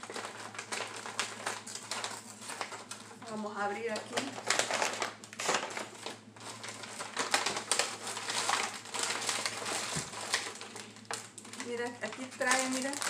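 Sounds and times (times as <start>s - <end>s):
paper bag crinkling: 0.0s - 13.0s.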